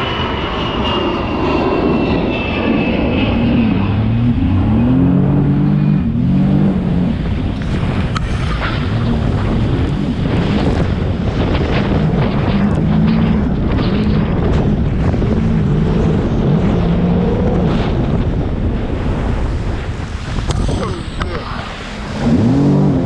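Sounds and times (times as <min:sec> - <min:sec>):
jet ski engine drone: 0:00.0 - 0:23.0
wind buffeting microphone: 0:00.0 - 0:23.0.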